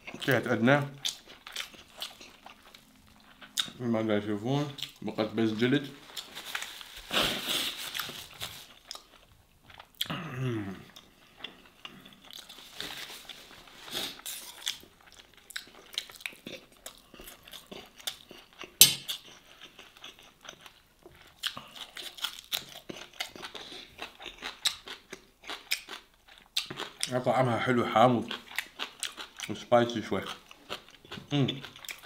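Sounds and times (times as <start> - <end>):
person chewing and crunching: 0.0 - 4.0, 4.6 - 32.0.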